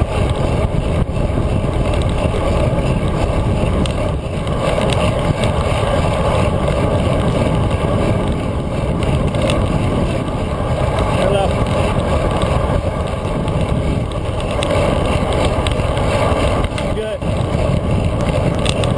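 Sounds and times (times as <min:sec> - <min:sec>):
road rumble: 0:00.0 - 0:18.9
wind rush: 0:00.0 - 0:18.9.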